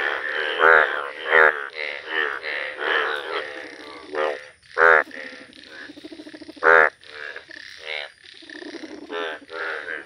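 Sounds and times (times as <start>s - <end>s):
bullfrog croaking: 0.0s - 10.0s.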